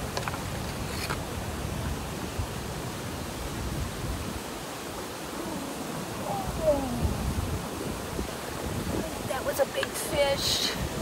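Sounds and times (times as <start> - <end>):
wind blowing over microphone: 0.0 - 11.0.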